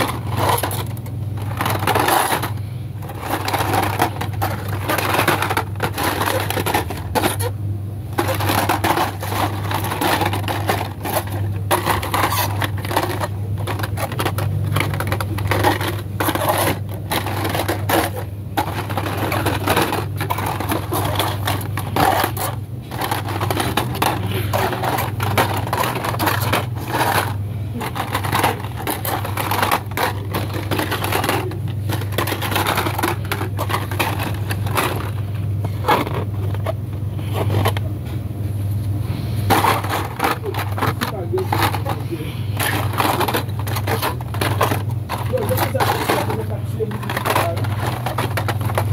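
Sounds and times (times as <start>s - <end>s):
blister packs crinkling and clacking: 0.0s - 48.9s
steady low hum: 0.0s - 48.9s.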